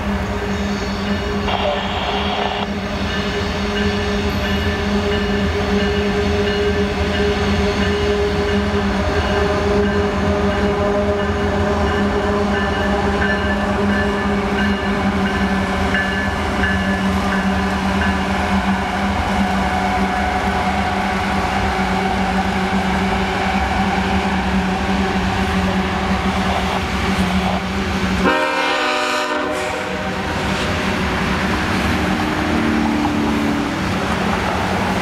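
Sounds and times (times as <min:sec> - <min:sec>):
locomotive engine drone: 0:00.0 - 0:35.0
train rumbling: 0:00.0 - 0:35.0.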